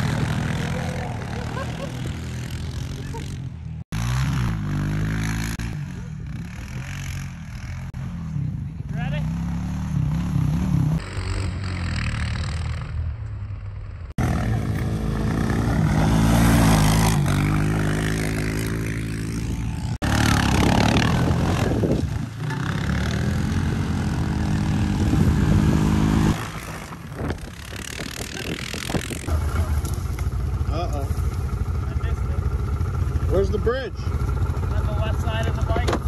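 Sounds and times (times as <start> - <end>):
atv engines revving: 0.0 - 36.0.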